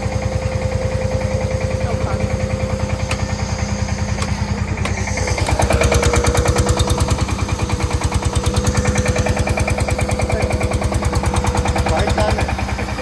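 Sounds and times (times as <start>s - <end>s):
engine chugging: 0.0s - 13.0s
steady whine: 0.0s - 13.0s.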